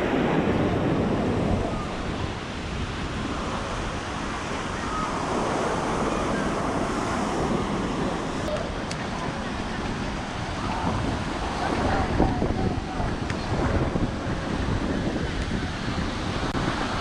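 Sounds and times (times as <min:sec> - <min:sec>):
ocean surf breaking on beach: 0:00.0 - 0:17.0
wind rumbling on microphone: 0:00.0 - 0:17.0.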